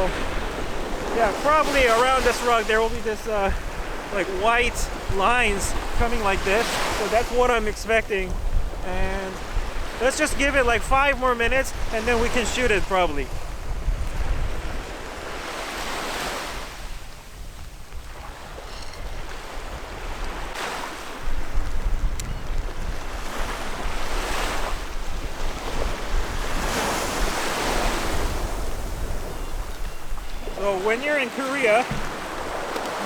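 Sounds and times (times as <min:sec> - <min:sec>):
wind buffeting microphone: 0:00.0 - 0:30.9
sea waves breaking on shore: 0:00.0 - 0:33.0.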